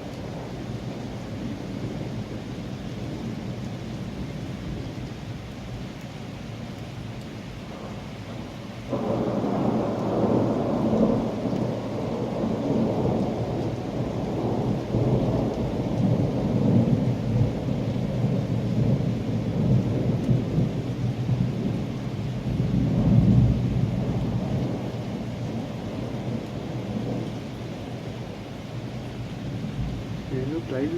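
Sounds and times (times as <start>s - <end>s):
rolling thunder rumble: 0.0s - 4.9s, 7.6s - 30.9s
steady rain: 0.0s - 30.9s.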